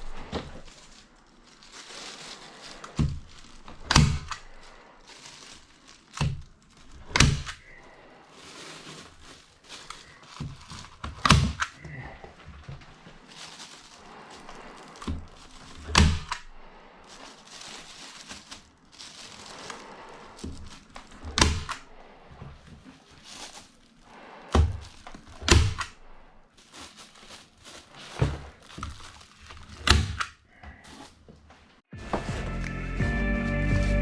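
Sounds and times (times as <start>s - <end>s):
insulation rustling: 0.0s - 29.9s.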